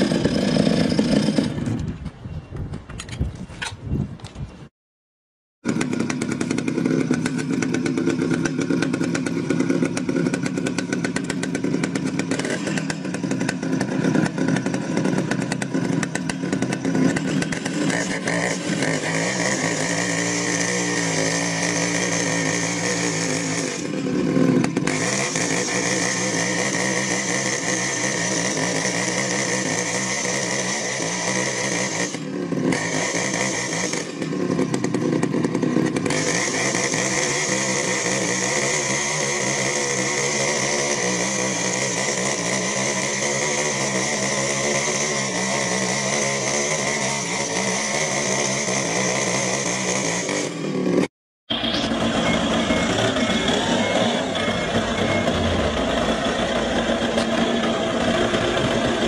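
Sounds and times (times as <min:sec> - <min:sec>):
chainsaw cutting log: 0:00.0 - 0:02.1, 0:05.6 - 0:59.0.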